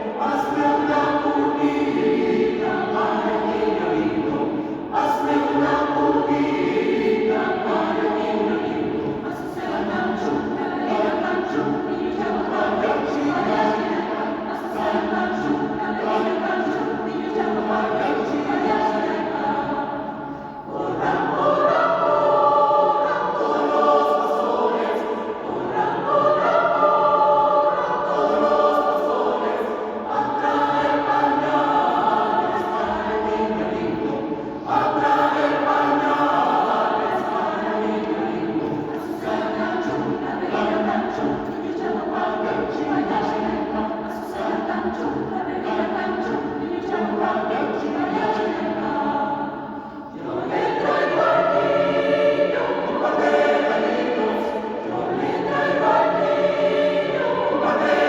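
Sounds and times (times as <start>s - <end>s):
choir singing a carol: 0.0s - 58.0s.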